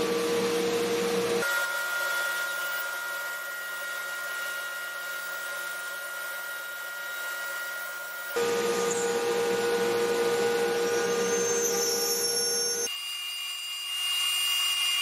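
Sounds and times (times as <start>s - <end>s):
router high-pitched whine: 0.0s - 15.0s.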